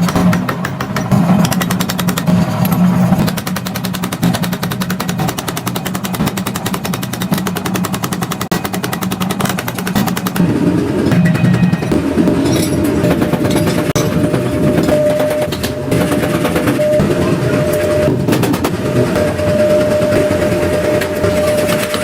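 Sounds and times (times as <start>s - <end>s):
machine hammering on metal: 0.0s - 22.0s.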